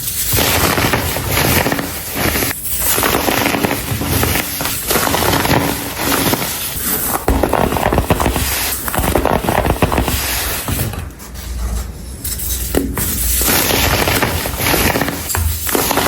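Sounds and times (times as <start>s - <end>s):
baking soda crushed by hand: 0.0s - 11.0s, 12.4s - 16.0s.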